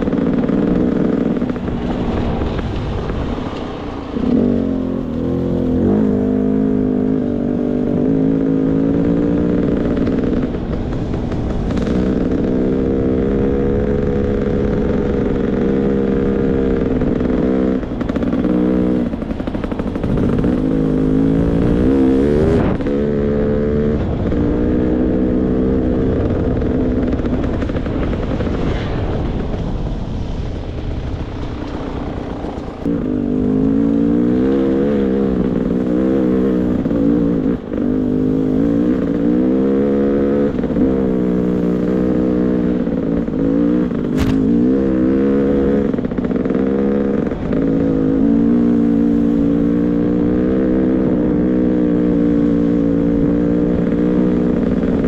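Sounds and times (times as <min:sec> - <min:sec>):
dirt bike engine revving: 0:00.0 - 0:29.0, 0:32.8 - 0:55.0.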